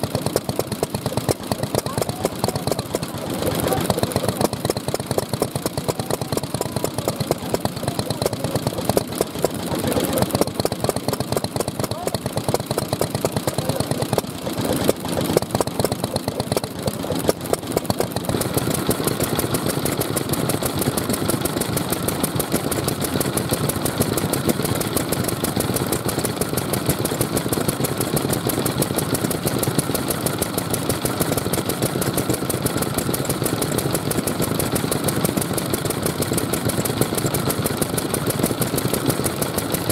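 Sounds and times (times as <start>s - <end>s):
stationary engines chugging: 0.0s - 39.9s.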